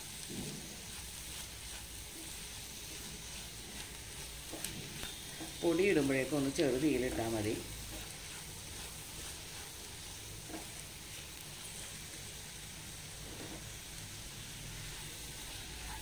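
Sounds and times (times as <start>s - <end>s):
masala sizzling in a pan: 0.0s - 16.0s
wooden spatula stirring: 0.0s - 16.0s.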